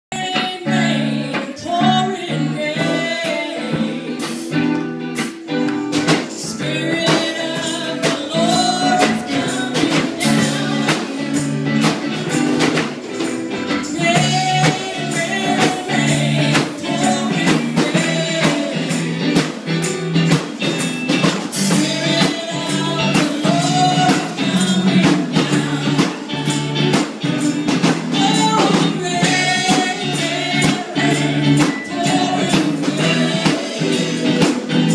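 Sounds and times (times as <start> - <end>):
gospel singing: 0.1 - 4.9, 5.9 - 34.9
instrumental accompaniment: 0.2 - 34.9
tambourine beat: 2.3 - 34.9.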